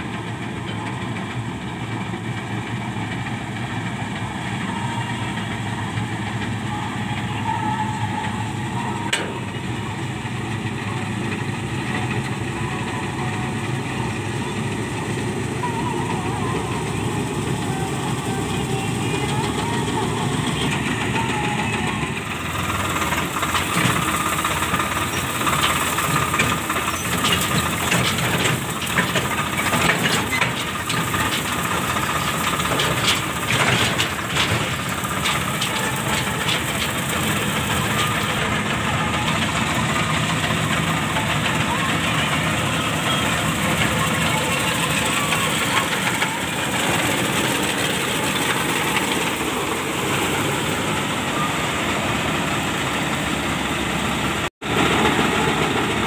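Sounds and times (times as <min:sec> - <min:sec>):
combine harvester running: 0:00.0 - 0:56.0
tractor engine rattling: 0:00.0 - 0:56.0.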